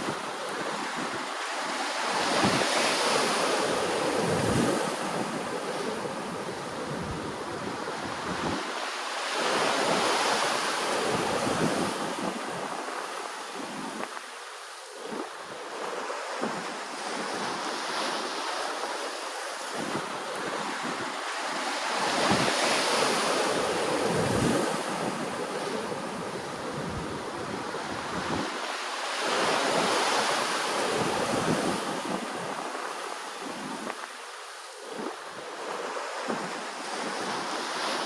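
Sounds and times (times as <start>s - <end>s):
wind buffeting microphone: 0.0s - 14.3s, 15.0s - 34.2s, 34.8s - 38.0s
ocean waves washing ashore: 0.0s - 38.0s.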